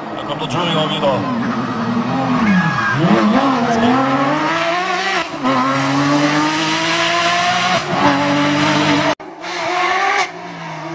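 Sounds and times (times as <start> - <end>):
car engine at full throttle: 0.0 - 10.9.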